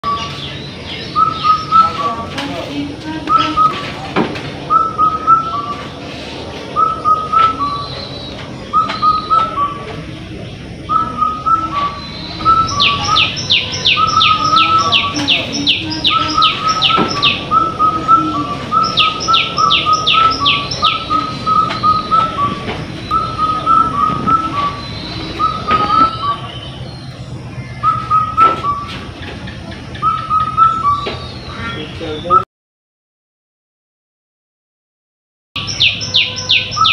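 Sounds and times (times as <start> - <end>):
sharp descending bird calls: 0.0 - 2.3, 3.3 - 6.0, 6.7 - 32.4, 35.6 - 36.9.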